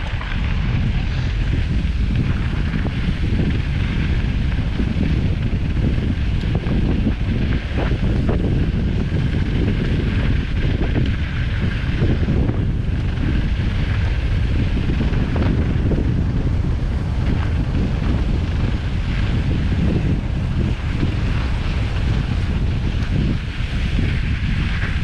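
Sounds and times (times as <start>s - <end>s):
tyres rumbling over gravel: 0.0s - 25.0s
wind buffeting microphone: 0.0s - 25.0s.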